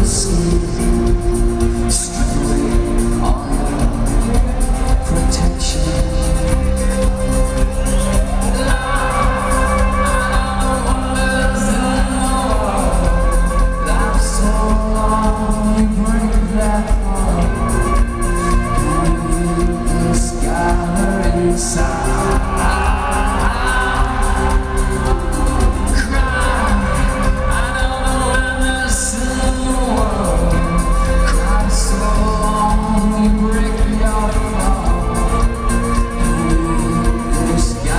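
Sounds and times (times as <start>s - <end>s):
live rock band: 0.0s - 37.9s
man singing: 0.0s - 37.9s.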